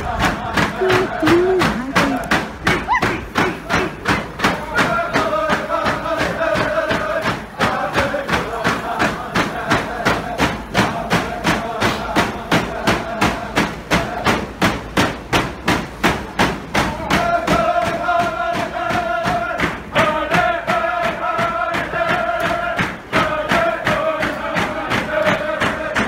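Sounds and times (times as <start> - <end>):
voices chanting: 0.0 - 14.8, 16.8 - 26.0
drum beaten steadily: 0.0 - 26.0.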